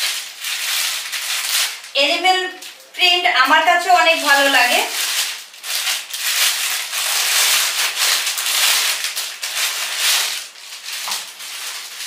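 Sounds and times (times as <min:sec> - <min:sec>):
packaging rustling and crinkling: 0:00.0 - 0:02.8, 0:03.5 - 0:12.0.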